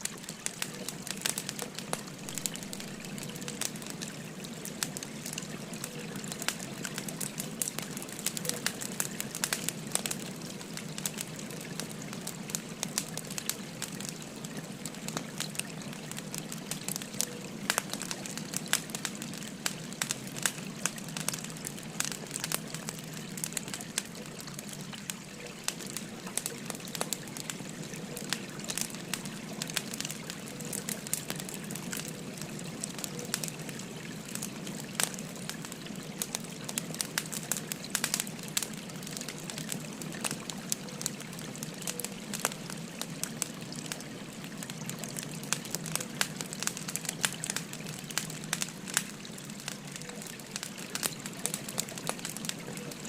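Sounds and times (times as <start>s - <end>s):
babbling river: 0.0s - 53.0s
wood fire crackling: 0.0s - 53.0s.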